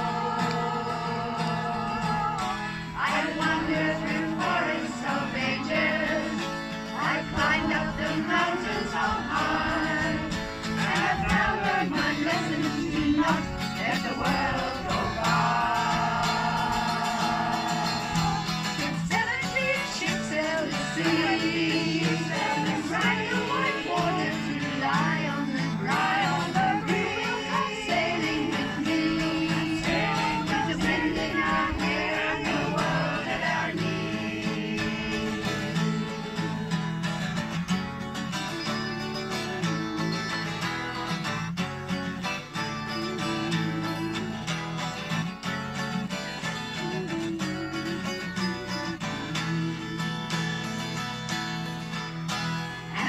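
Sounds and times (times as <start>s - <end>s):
folk song with singing: 0.0s - 53.0s.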